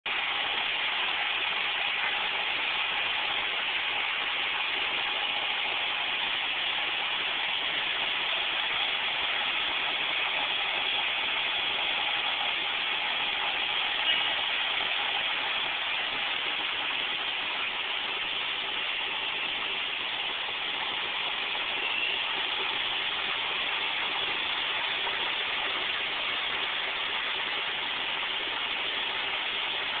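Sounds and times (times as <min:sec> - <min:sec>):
steady hiss: 0:00.1 - 0:30.0.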